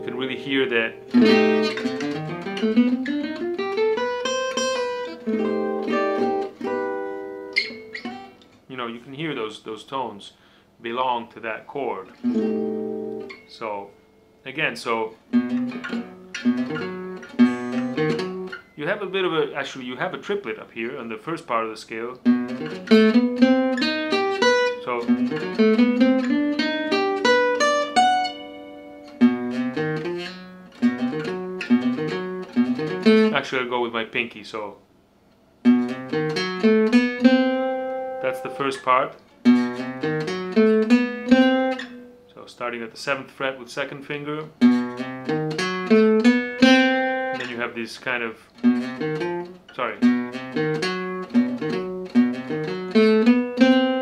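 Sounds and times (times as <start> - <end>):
acoustic guitar single-note run: 0.0 - 8.4, 12.0 - 19.7, 22.2 - 33.8, 35.6 - 42.4, 44.2 - 54.0
guitar chords ringing: 0.0 - 8.6, 12.0 - 20.1, 22.2 - 34.0, 35.6 - 42.4, 44.2 - 54.0.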